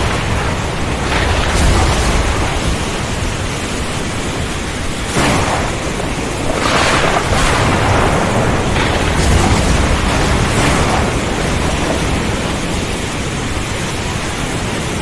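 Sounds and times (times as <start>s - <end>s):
low rumble: 0.0s - 13.4s
crackling thunder: 0.0s - 14.7s
dense rain: 0.0s - 15.0s.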